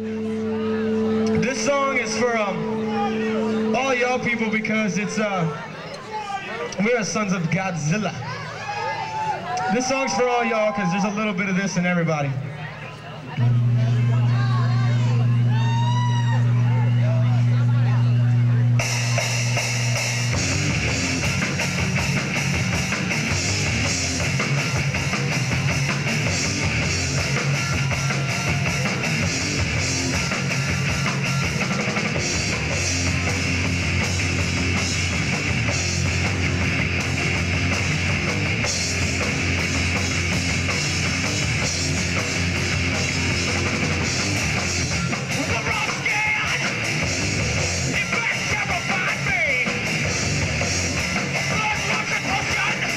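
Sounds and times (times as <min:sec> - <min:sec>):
live rock band playing: 0:00.0 - 0:09.9, 0:13.4 - 0:52.9.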